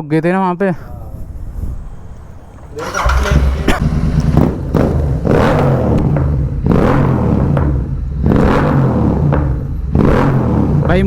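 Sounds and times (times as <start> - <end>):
exhaust pops and crackles: 0.3 - 11.0
motorcycle engine revving: 0.6 - 10.9.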